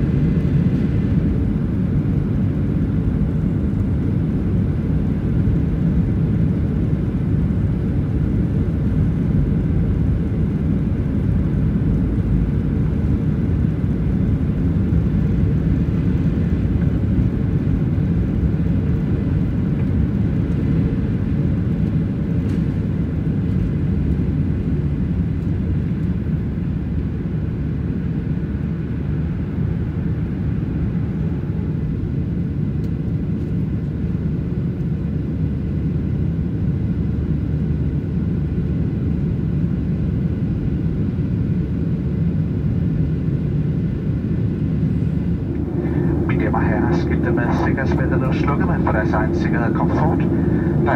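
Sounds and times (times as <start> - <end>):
jet engines rumbling at takeoff: 0.0 - 50.9.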